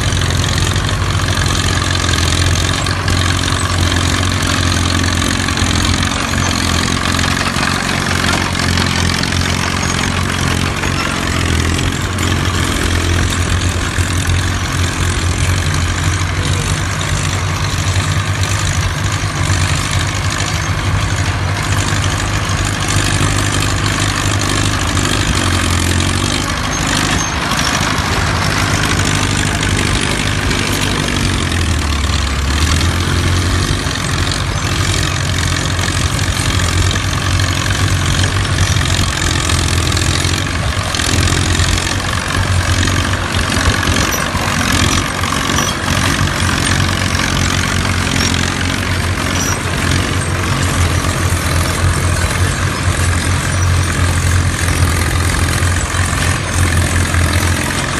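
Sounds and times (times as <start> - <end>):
crawler tractor engines droning: 0.0 - 57.9.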